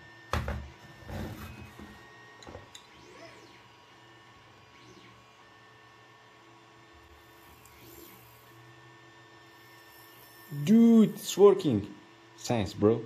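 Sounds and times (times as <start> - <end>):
faint mechanical hum: 0.0 - 13.0
faint motor whirs: 0.0 - 13.0.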